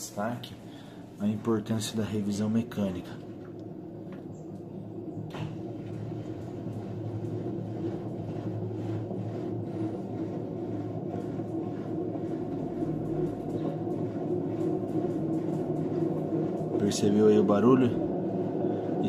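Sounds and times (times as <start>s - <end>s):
steady low rumble: 0.0s - 19.0s
washing machine spin cycle: 0.0s - 19.0s.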